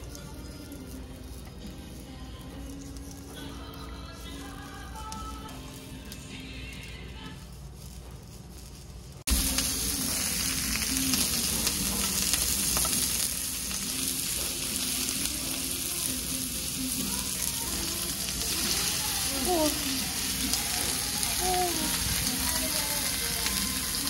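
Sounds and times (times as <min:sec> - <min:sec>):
food sizzling on griddle: 0:00.0 - 0:24.0.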